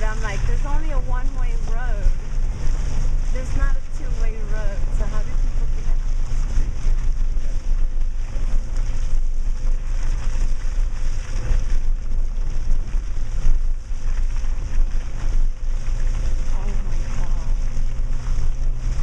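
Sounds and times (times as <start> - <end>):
engine and tyre rumble: 0.0 - 19.0.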